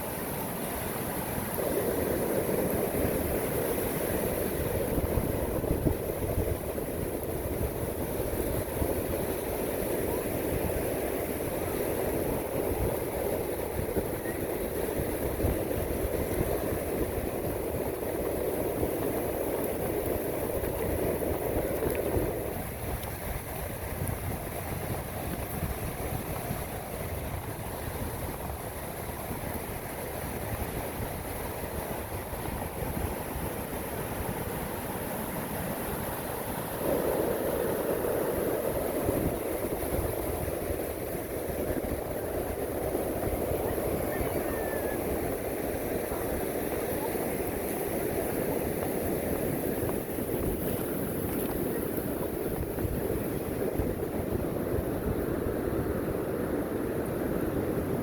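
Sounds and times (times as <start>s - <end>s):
ocean surf washing on beach: 0.0s - 58.0s
wind rumbling on microphone: 0.0s - 58.0s.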